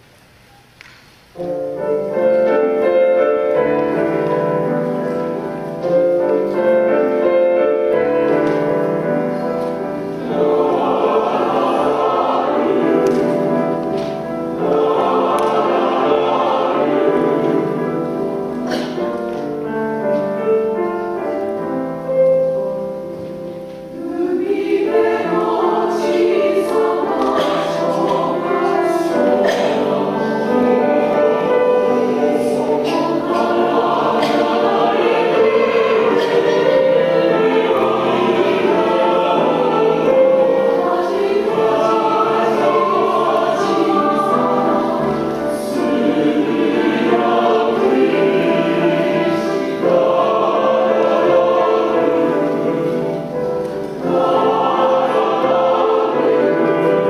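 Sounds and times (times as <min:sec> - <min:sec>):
piano accompaniment: 0:00.0 - 0:57.0
mixed choir singing: 0:01.4 - 0:57.0.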